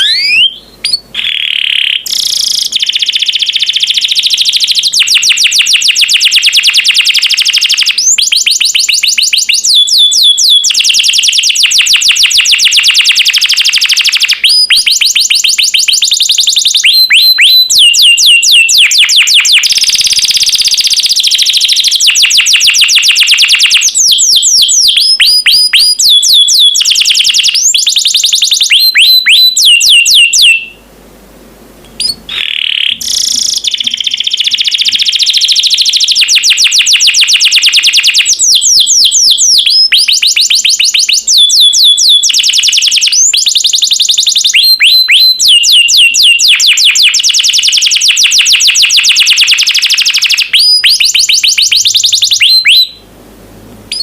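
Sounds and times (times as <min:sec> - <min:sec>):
canary singing trills: 0:00.0 - 0:30.8, 0:31.8 - 0:53.0.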